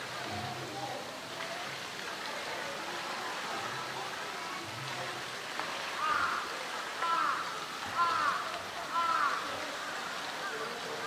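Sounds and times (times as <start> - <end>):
falling water hiss: 0.0 - 11.0.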